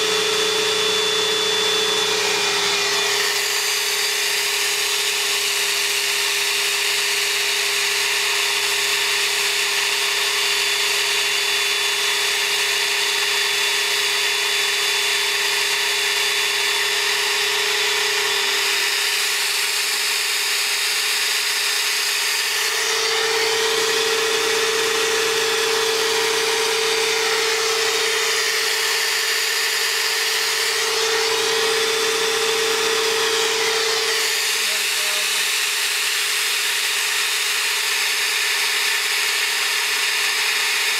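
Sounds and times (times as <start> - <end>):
flow bench motor humming: 0.0 - 40.9.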